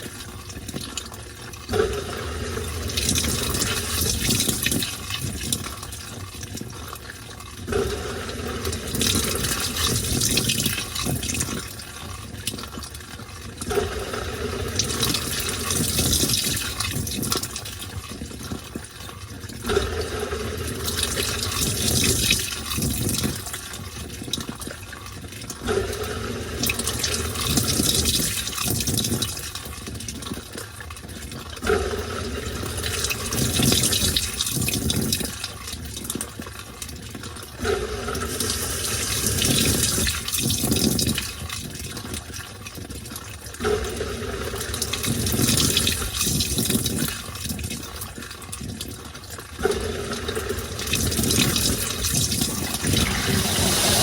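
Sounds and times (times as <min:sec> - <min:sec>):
washing machine sloshing: 0:00.0 - 0:54.0.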